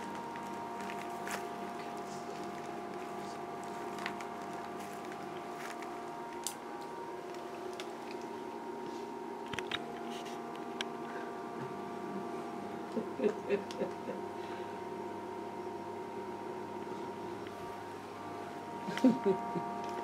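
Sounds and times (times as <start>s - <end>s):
steady hum of even tones: 0.0s - 20.0s.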